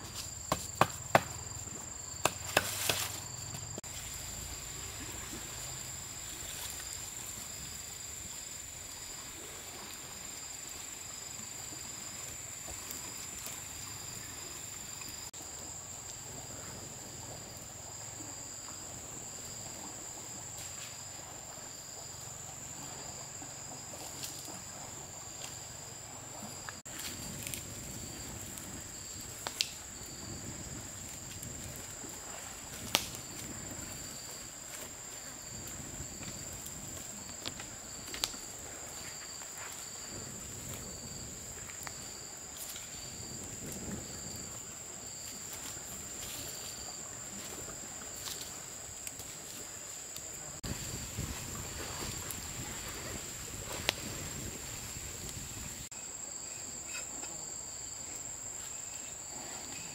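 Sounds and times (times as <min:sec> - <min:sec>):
insect chirping: 0:00.0 - 0:59.9
insects trilling: 0:00.0 - 0:59.9.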